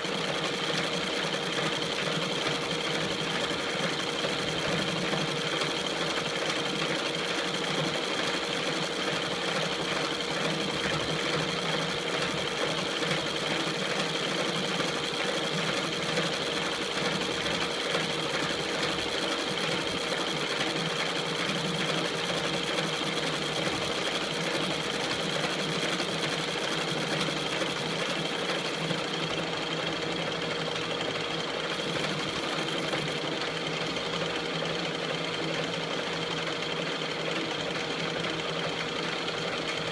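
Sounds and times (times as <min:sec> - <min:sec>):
metal lathe running: 0:00.0 - 0:39.9.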